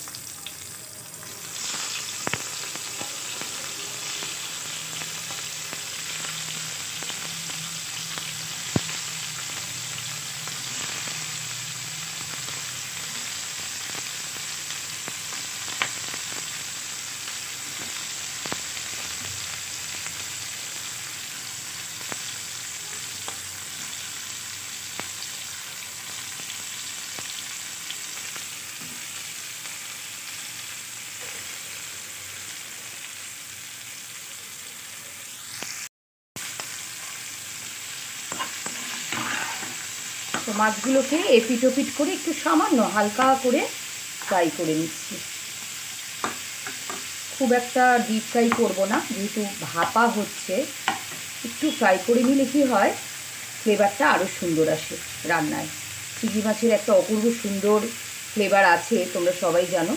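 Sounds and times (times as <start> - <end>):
prawns sizzling in oil: 0.0 - 59.9.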